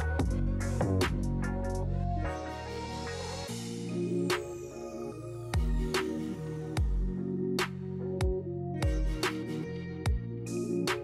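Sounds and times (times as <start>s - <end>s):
electronic music with bass: 0.0s - 11.0s.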